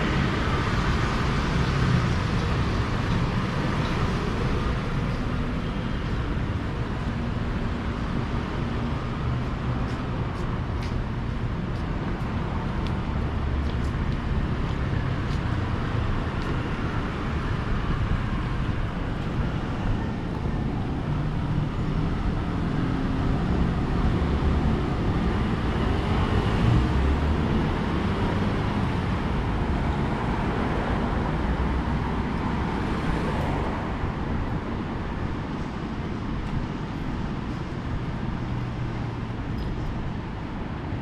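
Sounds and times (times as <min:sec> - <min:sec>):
cars passing on street: 0:00.0 - 0:41.0.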